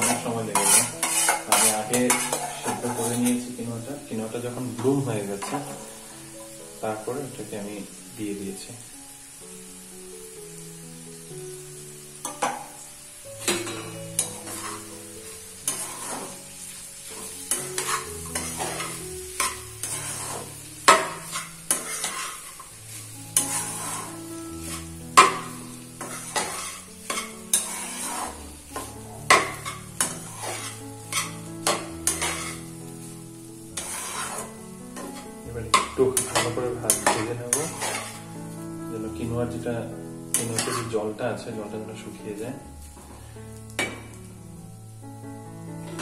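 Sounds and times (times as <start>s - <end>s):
food sizzling: 0.0s - 46.0s
soft background music: 0.0s - 46.0s.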